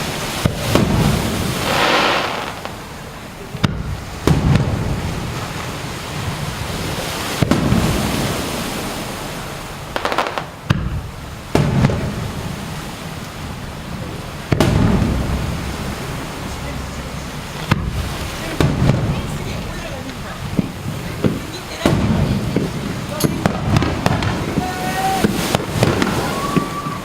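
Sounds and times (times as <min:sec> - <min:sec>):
fireworks bangs with rumble: 0:00.0 - 0:08.4, 0:09.8 - 0:12.7, 0:13.9 - 0:16.3, 0:17.5 - 0:27.0
fireworks crackling: 0:00.0 - 0:27.0.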